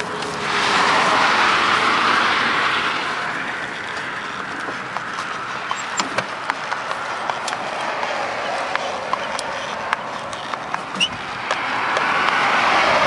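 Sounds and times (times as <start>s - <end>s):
horse hooves clopping on asphalt: 0.0s - 13.0s
vehicle passing on road: 0.0s - 13.0s.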